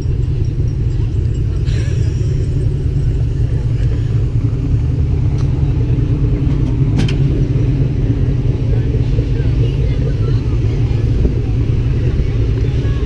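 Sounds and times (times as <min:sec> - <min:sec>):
car engines idling: 0:00.0 - 0:13.0.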